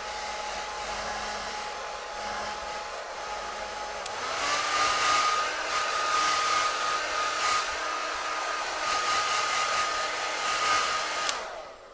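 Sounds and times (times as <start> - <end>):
hair dryer motor whine: 0.0 - 11.9.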